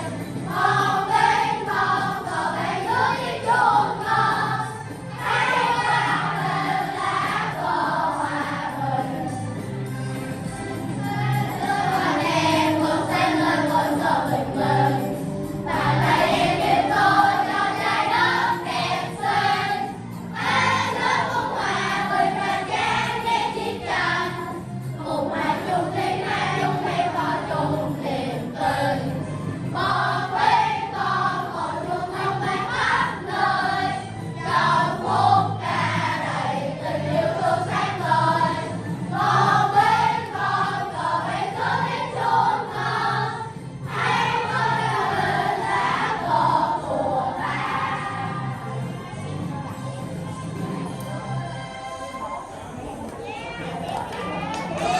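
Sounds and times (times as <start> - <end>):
children singing together: 0.0 - 9.6, 10.8 - 49.2.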